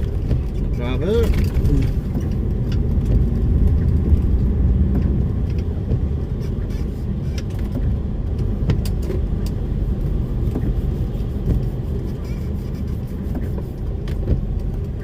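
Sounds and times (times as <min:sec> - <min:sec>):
lorry engine and road rumble: 0:00.0 - 0:15.0.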